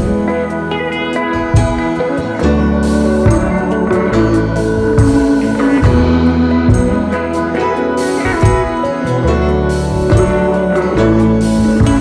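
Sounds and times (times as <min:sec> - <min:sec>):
instrumental music with deep bass: 0:00.0 - 0:12.0.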